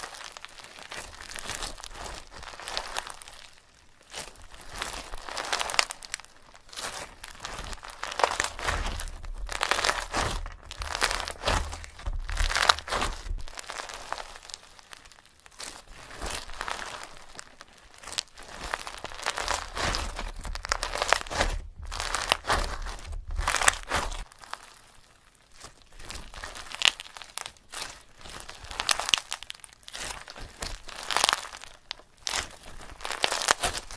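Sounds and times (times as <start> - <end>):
fake rice crunching by hand: 0.0 - 33.9.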